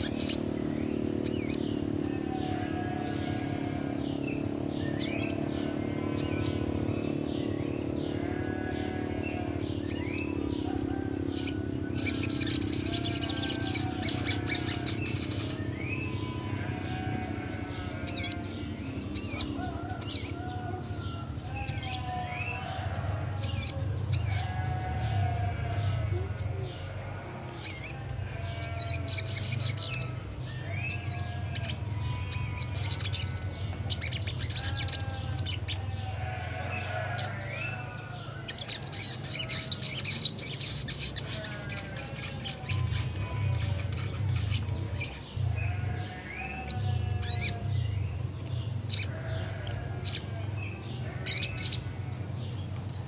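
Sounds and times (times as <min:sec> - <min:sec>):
bird chirping and warbling: 0:00.0 - 0:53.0.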